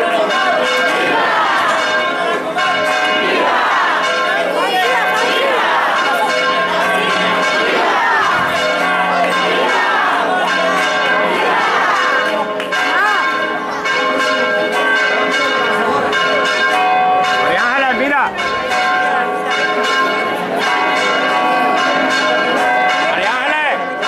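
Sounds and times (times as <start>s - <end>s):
church bells pealing: 0.0s - 24.0s
crowd shouting: 0.0s - 24.0s.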